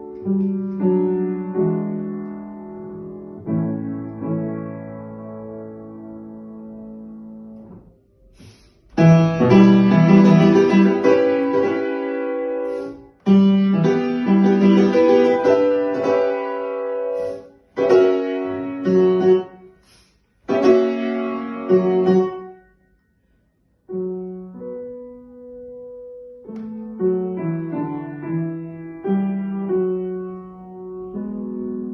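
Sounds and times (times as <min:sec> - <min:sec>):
piano music: 0:00.0 - 0:19.8, 0:20.4 - 0:22.9, 0:23.8 - 0:31.9.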